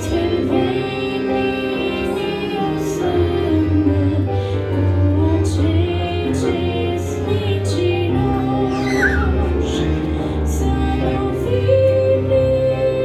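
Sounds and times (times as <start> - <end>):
instrumental accompaniment: 0.0 - 13.0
woman singing into a microphone: 0.0 - 13.0.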